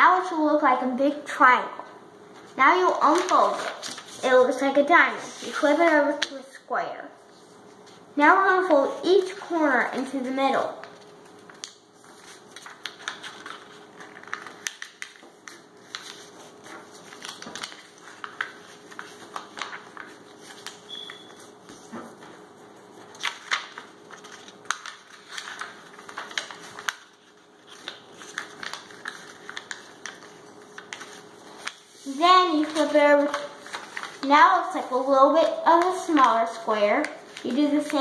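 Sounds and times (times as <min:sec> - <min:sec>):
paper crackling and rustling: 0:02.4 - 0:06.4, 0:07.6 - 0:38.0.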